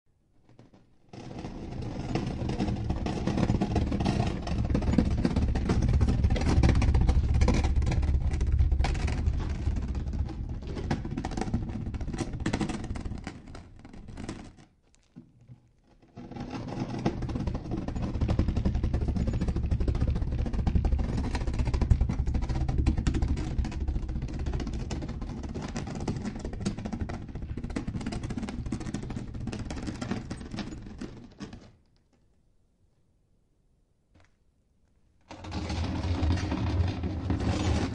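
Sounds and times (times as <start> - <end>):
stones clattering and grinding: 0.5 - 32.0.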